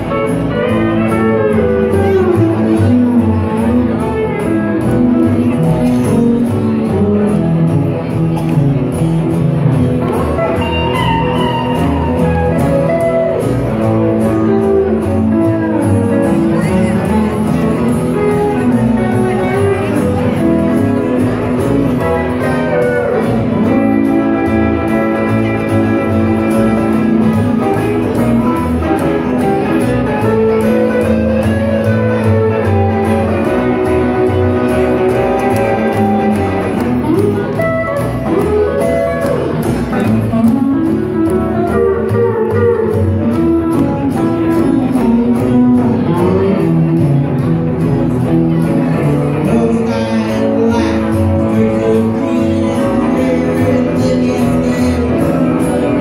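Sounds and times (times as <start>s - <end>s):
rockabilly band playing: 0.0s - 56.0s.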